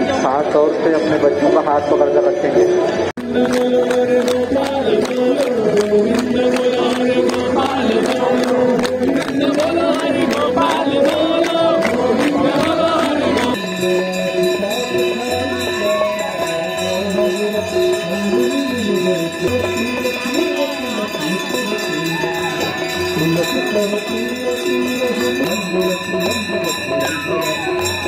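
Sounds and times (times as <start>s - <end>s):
jingling percussion: 3.2s - 28.0s.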